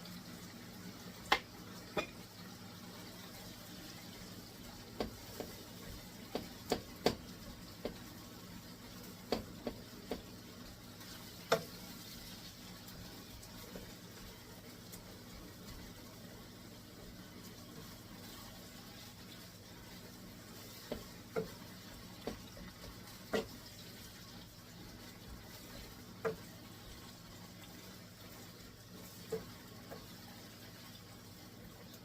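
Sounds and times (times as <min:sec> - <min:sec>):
meat sizzling in a skillet: 0:00.0 - 0:32.0.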